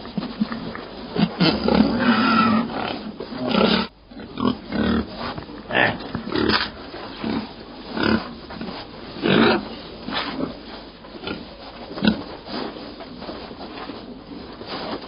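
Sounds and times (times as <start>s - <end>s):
pig grunting: 0.0s - 12.3s.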